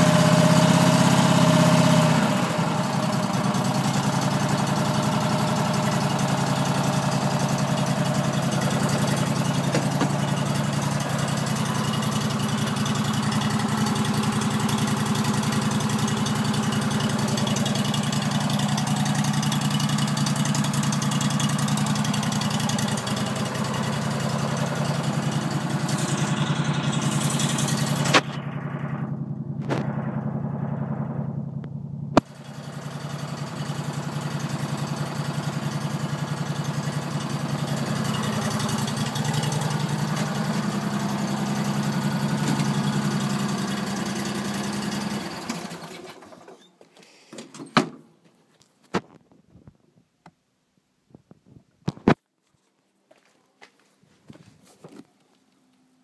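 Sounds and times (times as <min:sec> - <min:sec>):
engine running down: 0:00.0 - 0:46.6
mower engine idling: 0:00.0 - 0:46.7.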